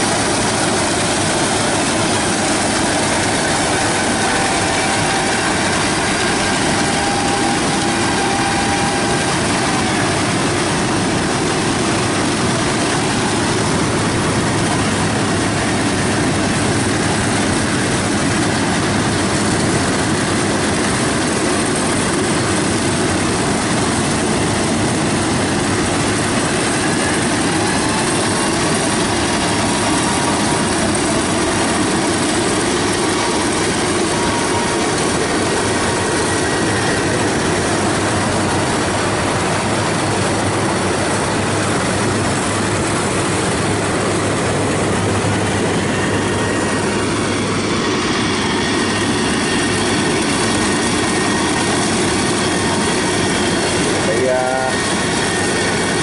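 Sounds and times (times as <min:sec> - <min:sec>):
combine harvester engine and threshing: 0:00.0 - 0:56.0.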